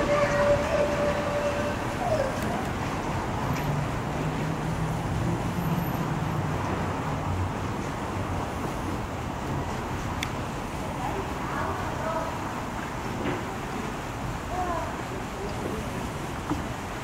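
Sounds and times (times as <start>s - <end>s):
locomotive low rumble: 0.0s - 17.0s.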